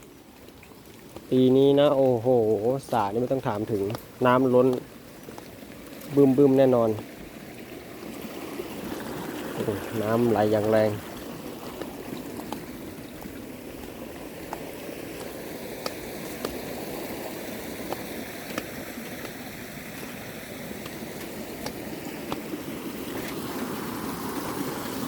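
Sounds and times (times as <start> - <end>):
water rushing: 0.0 - 25.0.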